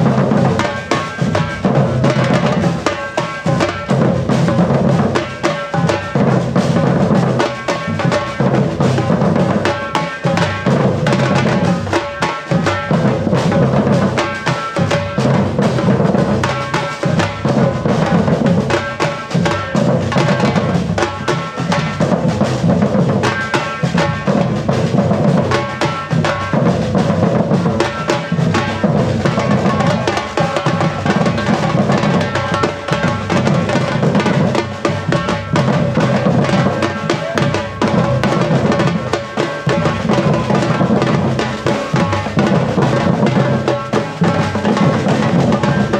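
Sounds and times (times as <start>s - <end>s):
percussion ensemble drumming: 0.0s - 45.9s.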